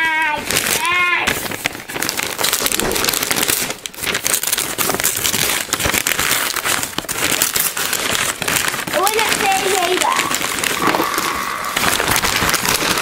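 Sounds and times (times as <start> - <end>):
paper ripping: 0.0 - 13.0
wrapping paper rustling: 0.0 - 13.0.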